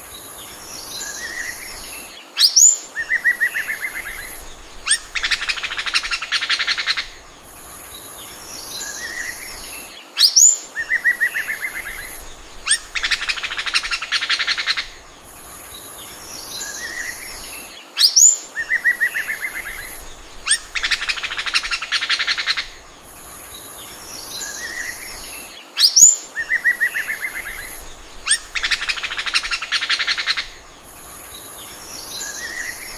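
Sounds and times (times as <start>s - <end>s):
magpie-robin singing: 0.8s - 7.2s, 8.5s - 15.0s, 16.2s - 22.8s, 24.0s - 30.6s, 31.2s - 32.9s.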